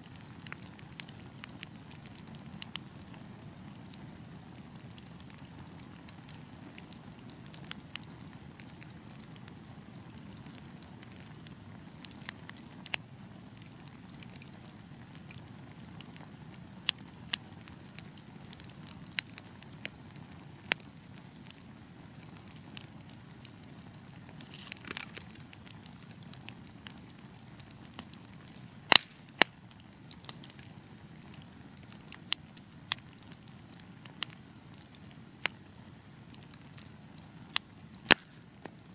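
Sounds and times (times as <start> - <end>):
fireplace fire crackling: 0.0 - 38.9
low rumble of flame: 0.0 - 38.9.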